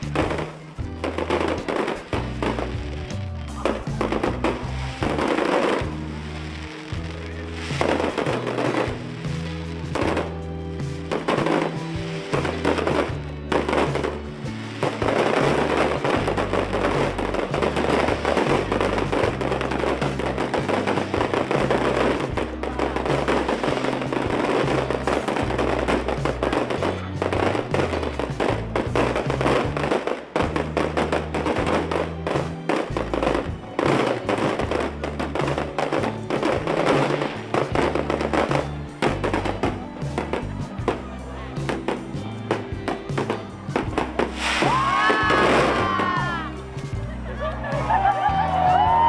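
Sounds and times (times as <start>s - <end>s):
fireworks bursting and crackling: 0.0s - 49.0s
music with heavy bass: 0.0s - 49.0s.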